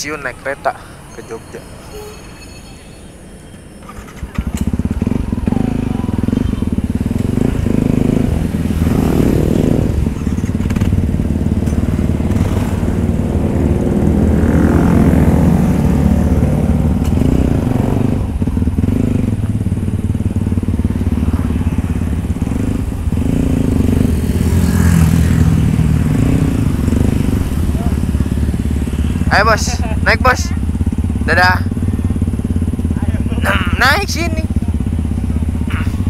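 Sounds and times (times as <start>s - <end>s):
motorcycle engine running at low revs: 3.9s - 36.0s.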